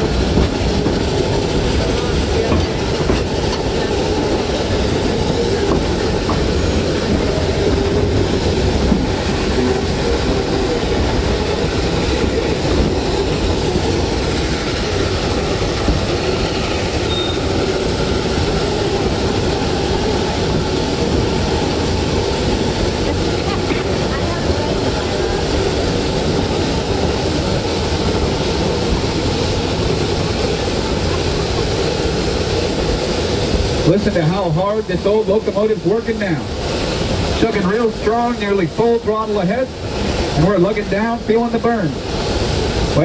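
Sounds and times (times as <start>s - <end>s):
steam locomotive working: 0.0s - 43.0s
train cars rumbling and rattling: 0.0s - 43.0s.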